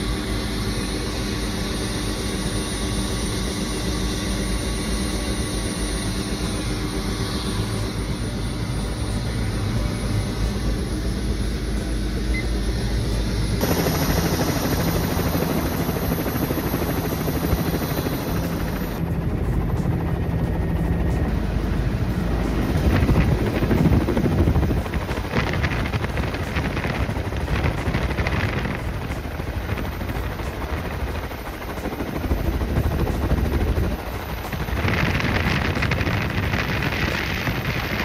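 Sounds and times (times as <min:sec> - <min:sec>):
helicopter engine and rotor: 0:00.0 - 0:38.0
steady low hum: 0:00.0 - 0:38.0.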